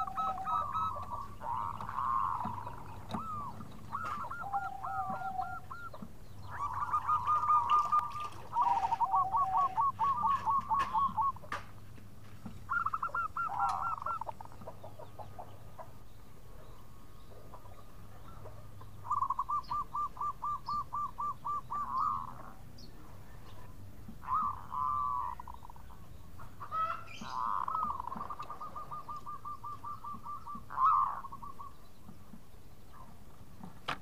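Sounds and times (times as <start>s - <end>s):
dove cooing: 0.0s - 11.7s, 12.7s - 15.9s, 16.5s - 22.6s, 23.6s - 31.8s.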